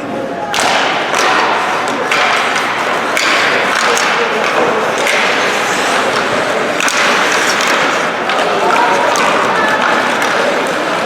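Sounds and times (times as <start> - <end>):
hockey sticks and puck knocks: 0.5 - 11.0
skate blades scraping ice: 0.6 - 11.0.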